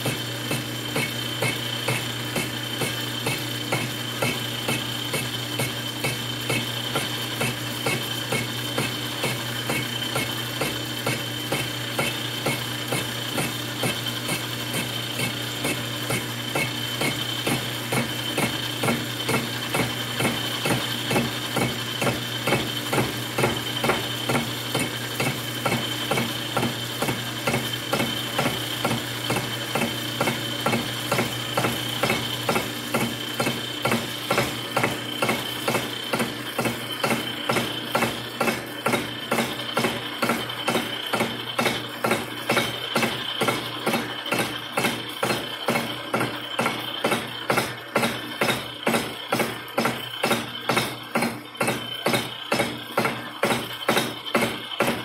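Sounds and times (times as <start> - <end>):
lathe motor hum: 0.0 - 55.0.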